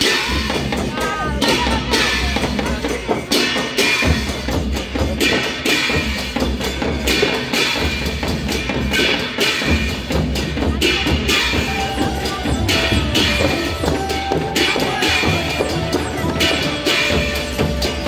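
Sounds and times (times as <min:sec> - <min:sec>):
bright percussion strikes: 0:00.0 - 0:18.0
deep steady drum beat: 0:00.0 - 0:18.0.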